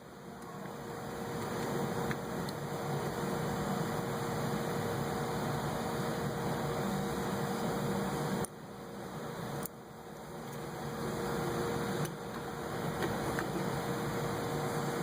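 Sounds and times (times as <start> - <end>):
mechanical hum and hiss: 0.0 - 15.0.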